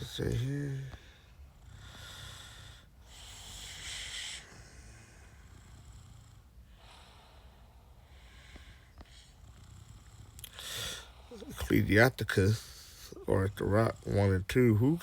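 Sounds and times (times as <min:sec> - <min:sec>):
faint low hum: 0:00.0 - 0:15.0
man breathing noisily: 0:00.5 - 0:14.3.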